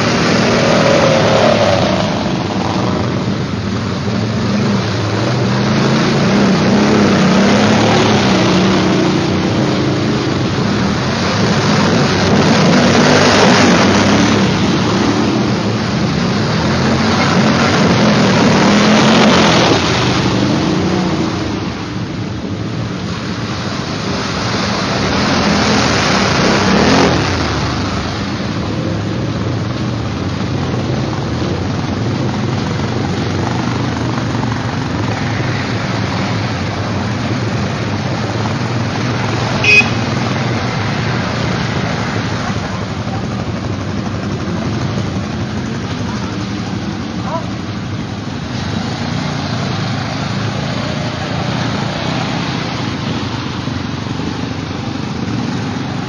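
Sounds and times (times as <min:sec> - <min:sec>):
quad bike engines revving: 0:00.0 - 0:56.0
water and mud splashing: 0:00.0 - 0:56.0.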